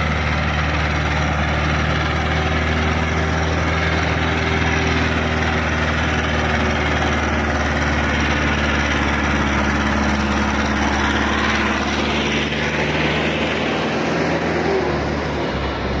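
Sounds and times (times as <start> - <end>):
tractor diesel engine passing: 0.0 - 16.0.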